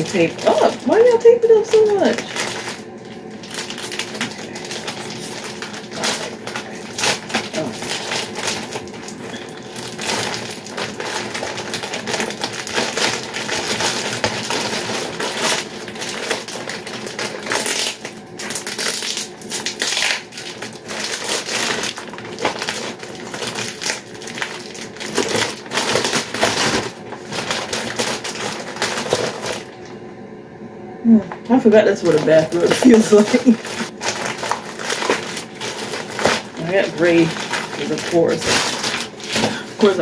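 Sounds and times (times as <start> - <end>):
plastic bag crinkling: 0.0 - 29.9, 31.8 - 40.0.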